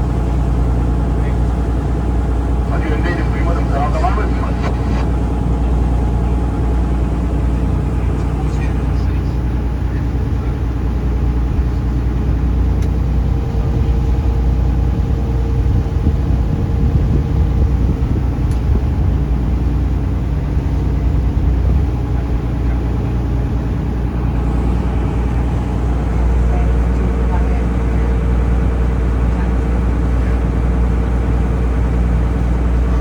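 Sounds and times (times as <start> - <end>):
boat engine rumbling: 0.0 - 33.0.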